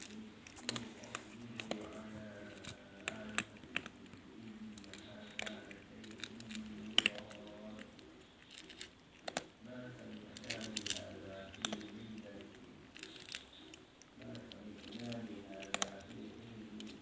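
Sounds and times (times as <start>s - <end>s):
cat crunching food: 0.0s - 17.0s.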